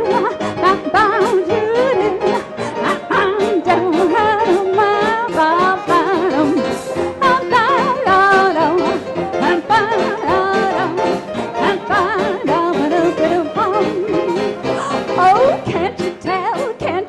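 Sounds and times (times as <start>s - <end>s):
jazz dance orchestra playing: 0.0s - 17.0s.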